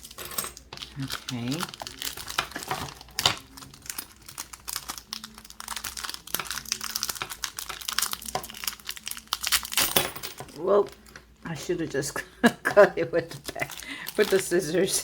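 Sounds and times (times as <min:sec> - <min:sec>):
plastic bag crinkling: 0:00.0 - 0:12.2, 0:12.8 - 0:15.0.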